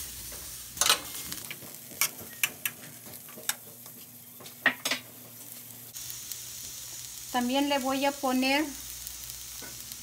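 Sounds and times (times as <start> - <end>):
faint cooking sizzle: 0.0 - 10.0.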